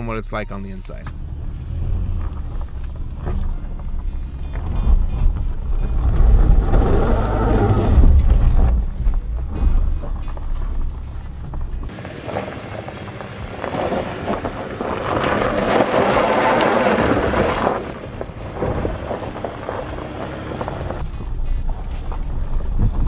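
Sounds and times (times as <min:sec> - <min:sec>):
low in-cab rumble: 0:00.0 - 0:23.0
tires crunching over gravel: 0:00.7 - 0:23.0.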